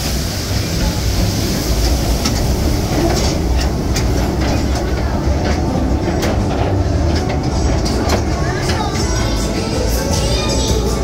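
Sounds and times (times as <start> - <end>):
train rumbling on track: 0.0 - 11.0
wheels clicking and clacking: 0.5 - 11.0.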